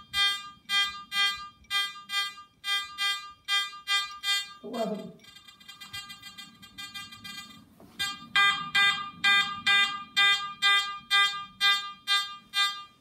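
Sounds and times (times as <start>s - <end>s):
metal detector beeping: 0.0s - 13.0s.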